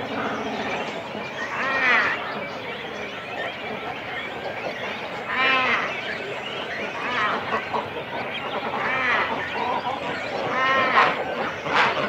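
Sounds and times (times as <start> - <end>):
cormorant colony calls: 0.0 - 12.0
loud pitched bird calls: 0.0 - 12.0.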